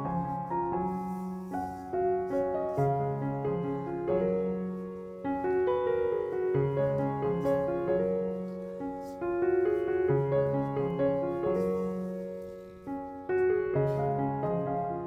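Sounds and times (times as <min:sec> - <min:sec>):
solo piano chords: 0:00.0 - 0:15.0.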